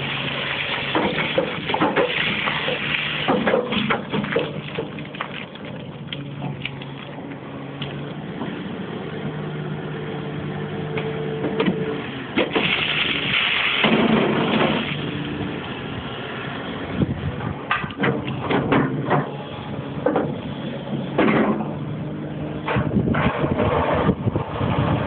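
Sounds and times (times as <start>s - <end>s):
excavator engine running: 0.0s - 25.0s.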